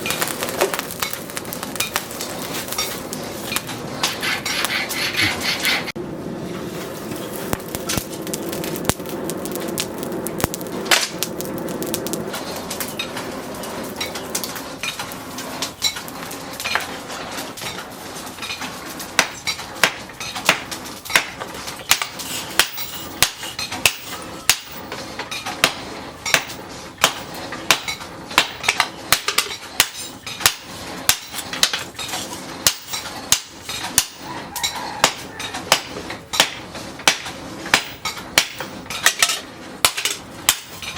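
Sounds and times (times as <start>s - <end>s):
hammer striking hot steel: 0.0s - 40.9s.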